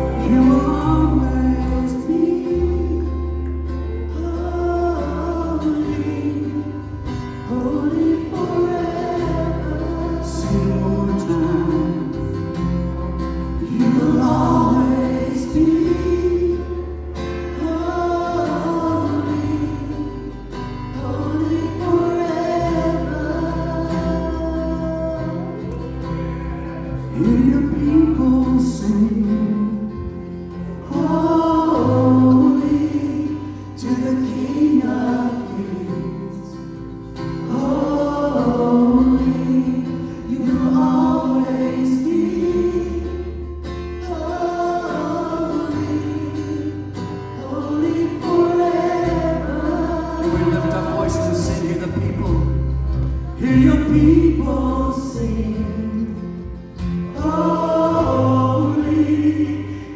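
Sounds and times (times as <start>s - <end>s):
bass and guitar accompaniment: 0.0s - 59.9s
gospel choir singing: 0.0s - 59.9s.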